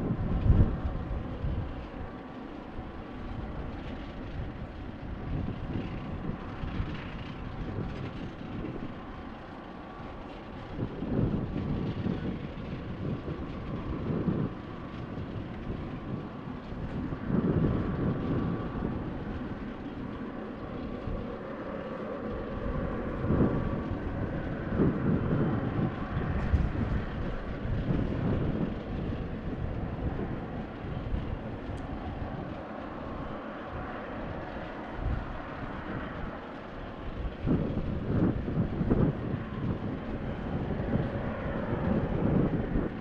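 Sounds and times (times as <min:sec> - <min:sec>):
jet engines running with whine: 0:00.0 - 0:43.0
wind buffeting microphone: 0:00.0 - 0:43.0.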